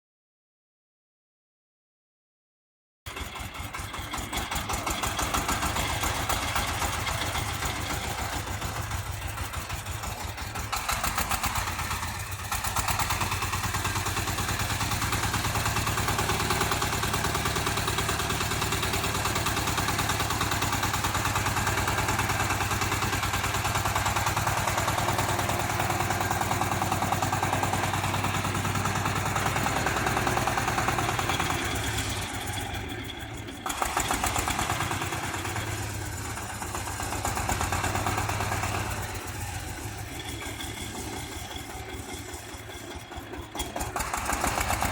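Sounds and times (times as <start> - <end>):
tractor diesel engine running: 3.1 - 44.9.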